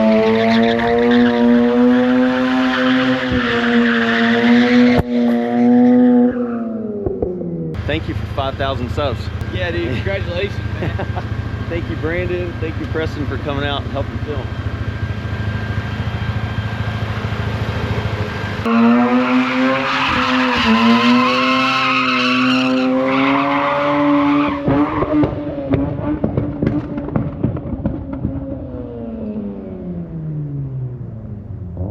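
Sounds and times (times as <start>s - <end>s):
rotary engine revving: 0.0s - 31.2s.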